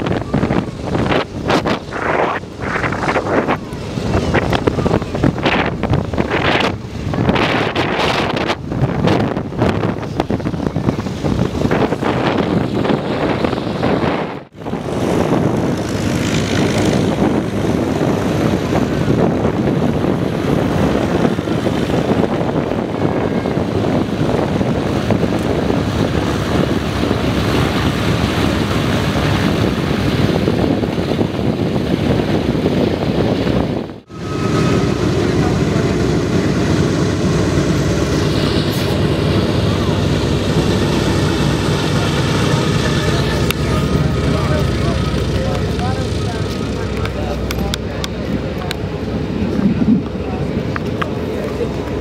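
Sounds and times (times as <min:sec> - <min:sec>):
propeller aircraft engine running: 0:00.0 - 0:52.0
radial aircraft engines running: 0:00.0 - 0:52.0.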